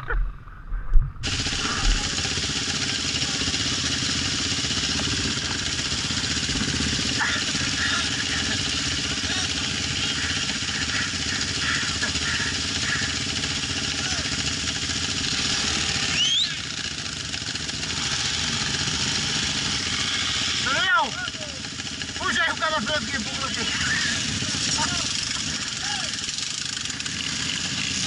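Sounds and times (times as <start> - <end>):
motorcycle engine at low revs: 1.0 - 28.0.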